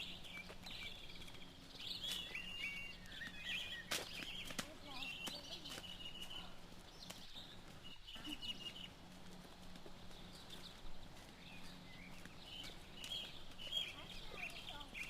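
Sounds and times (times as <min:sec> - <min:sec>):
faint low hum from sky: 0:00.0 - 0:15.0.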